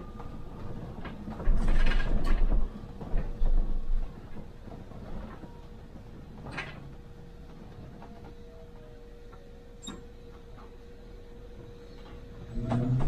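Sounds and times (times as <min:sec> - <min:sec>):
bus cab hum: 0:00.0 - 0:13.0.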